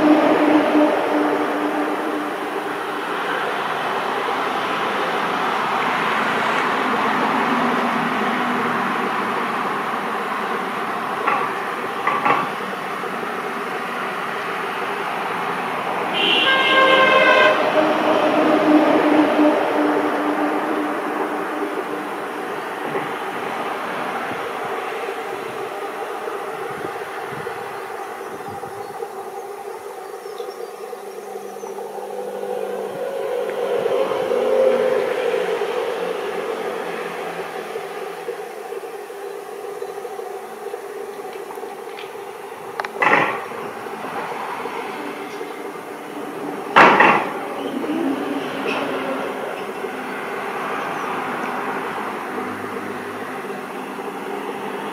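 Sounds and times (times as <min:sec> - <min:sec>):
distant diesel locomotive drone: 0:00.0 - 0:54.9.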